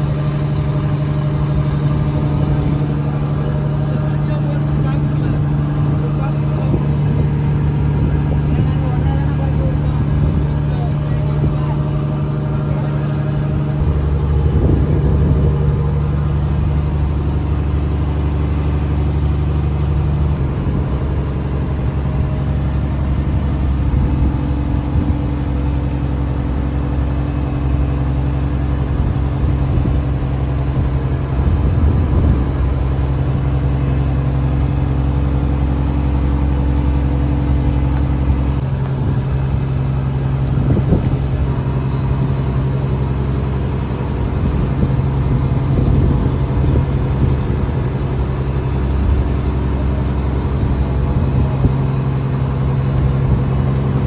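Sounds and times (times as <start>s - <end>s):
boat engine low hum: 0.0s - 54.0s.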